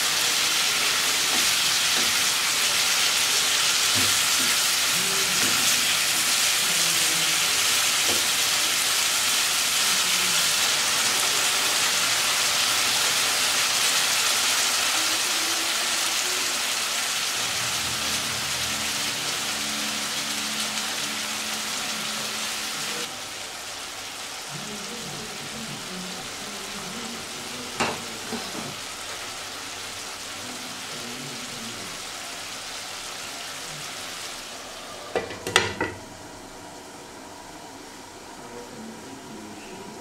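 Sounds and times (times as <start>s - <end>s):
meat sizzling in a frying pan: 0.0s - 36.0s.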